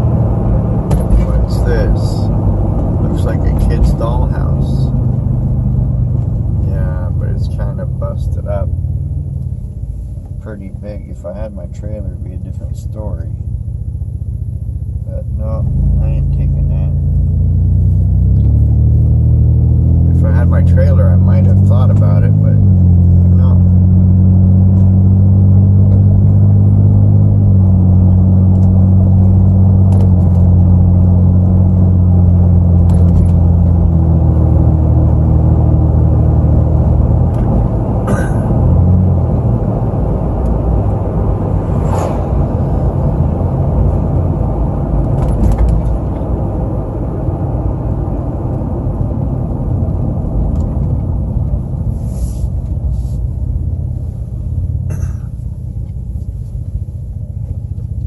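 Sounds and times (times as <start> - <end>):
road rumble: 0.0 - 58.0
vehicle engine hum: 0.0 - 58.0.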